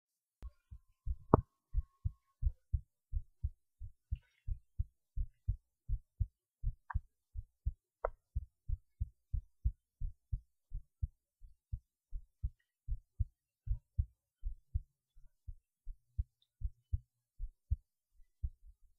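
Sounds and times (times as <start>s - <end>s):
heartbeat thumps: 1.0s - 11.6s, 12.2s - 14.9s, 15.5s - 17.8s, 18.4s - 18.8s.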